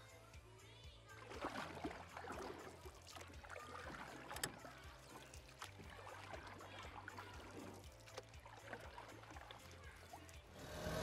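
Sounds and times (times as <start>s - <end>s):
water splashing and trickling: 0.0s - 10.8s.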